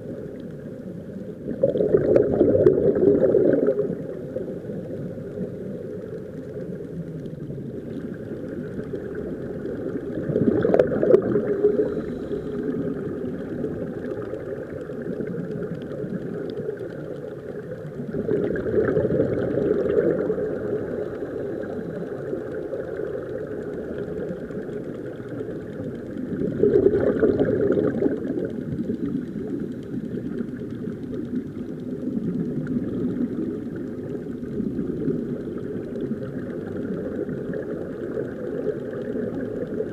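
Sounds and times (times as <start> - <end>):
muffled underwater rumble: 0.0 - 39.9
underwater bubbling: 0.0 - 39.9.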